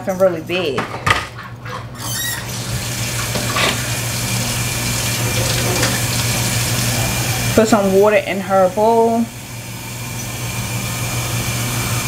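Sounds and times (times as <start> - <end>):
water filling a bowl: 1.4 - 12.0.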